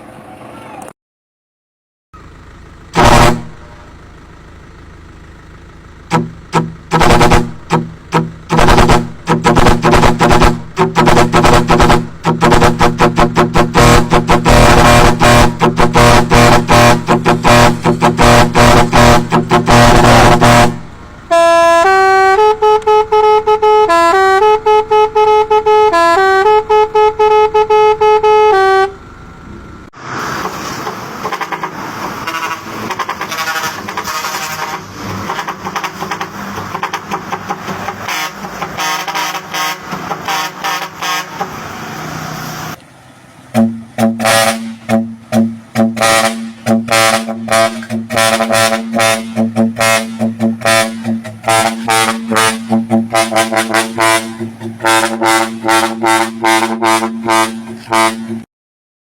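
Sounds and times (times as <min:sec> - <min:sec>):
air horn rhythmic blasts: 0:02.9 - 0:03.9, 0:06.1 - 0:29.0, 0:31.2 - 0:41.8, 0:43.5 - 0:58.5
air horn playing a tune: 0:02.9 - 0:04.0, 0:06.1 - 0:29.0, 0:31.2 - 0:41.7, 0:43.5 - 0:58.5.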